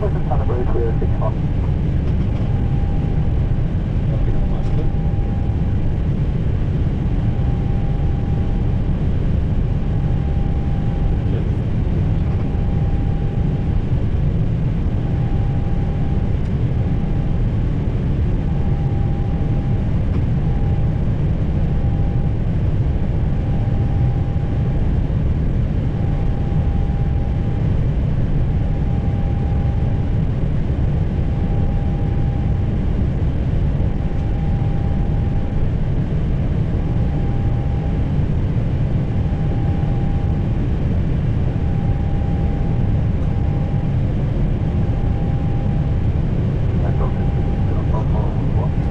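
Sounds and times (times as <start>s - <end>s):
low rumble of engines and airflow: 0.0s - 48.9s.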